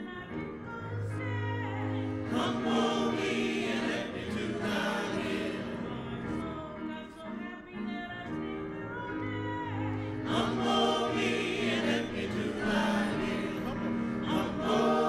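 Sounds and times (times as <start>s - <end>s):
choir singing a hymn: 0.0s - 7.4s, 8.0s - 15.0s.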